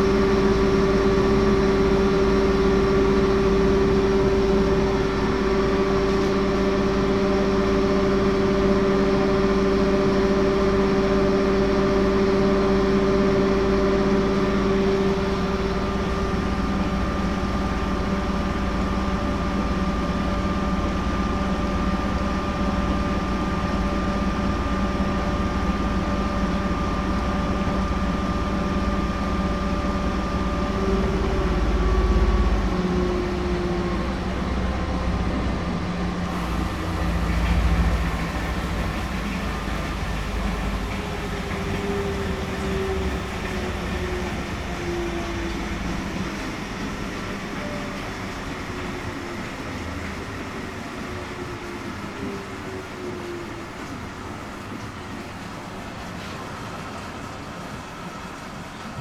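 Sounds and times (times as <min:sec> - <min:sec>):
washing machine humming: 0:00.0 - 0:59.0.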